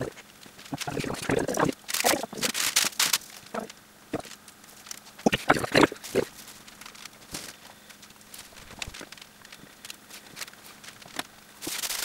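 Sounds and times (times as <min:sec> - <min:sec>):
plastic bag rustling: 0:00.5 - 0:12.0.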